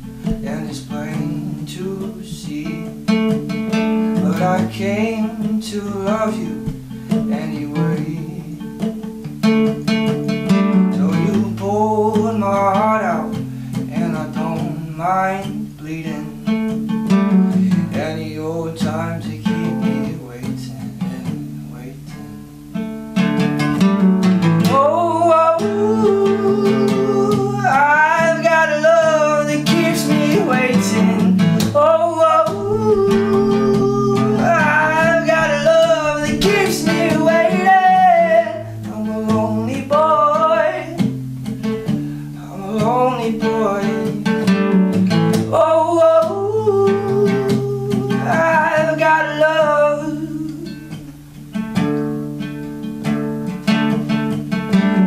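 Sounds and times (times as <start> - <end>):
man singing: 0.0 - 22.5, 24.4 - 51.1
acoustic guitar strumming: 0.0 - 55.0.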